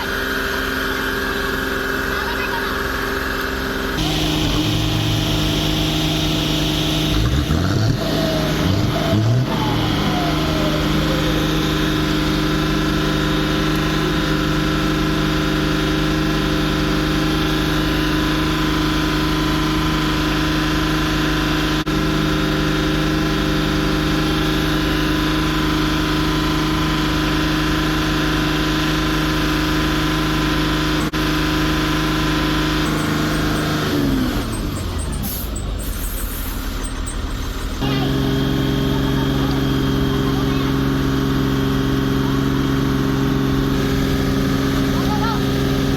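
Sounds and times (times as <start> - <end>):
heavy truck engine at high revs: 0.0 - 45.9.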